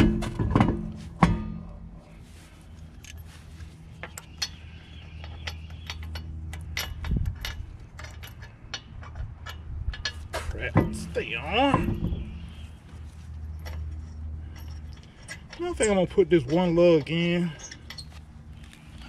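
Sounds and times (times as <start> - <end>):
lug nuts clicking and rattling: 0.0 - 1.7, 2.7 - 19.0
wheel clanking onto hub: 0.0 - 1.9, 4.0 - 12.7, 13.4 - 19.0.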